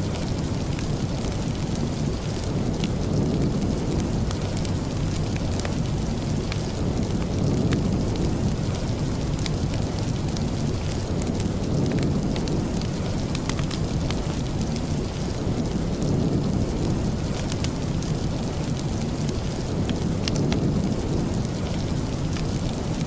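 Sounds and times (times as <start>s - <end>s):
heavy rain: 0.0s - 23.0s
sharp ticks of raindrops: 0.0s - 23.0s.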